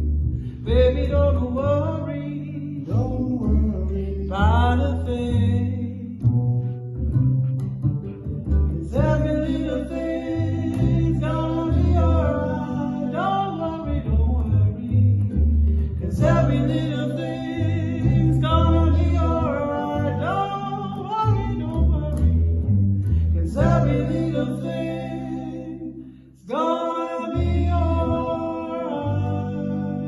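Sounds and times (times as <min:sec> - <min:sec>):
sung vocals: 0:00.0 - 0:07.2, 0:08.5 - 0:30.0
double bass: 0:00.0 - 0:30.0
ukulele: 0:00.0 - 0:30.0.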